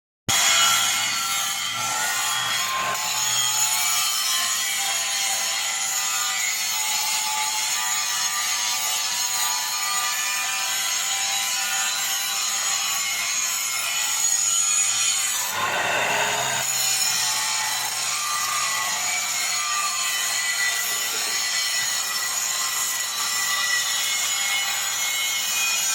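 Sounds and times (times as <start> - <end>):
angle grinder grinding steel: 0.3 - 25.9.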